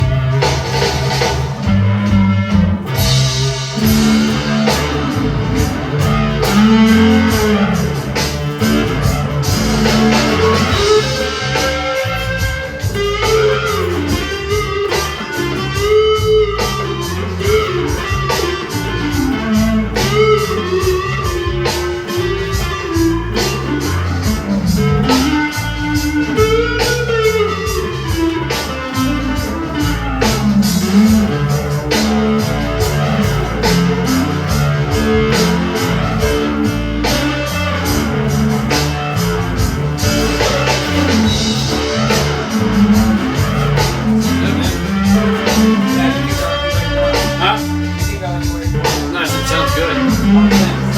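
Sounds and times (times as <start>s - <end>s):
bass and drum backing: 0.0s - 50.9s
fuzzy electric guitar lead: 0.0s - 50.9s.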